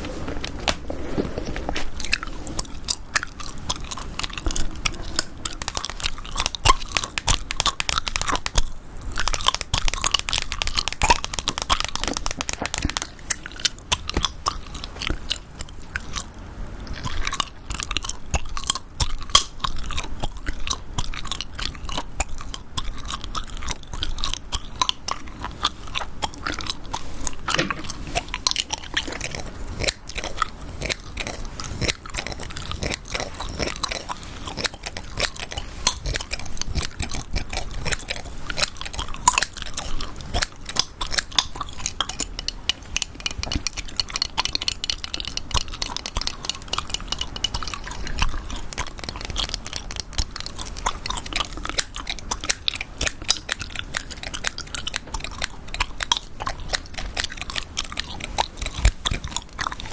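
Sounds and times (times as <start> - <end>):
gum chewing: 0.0 - 59.9.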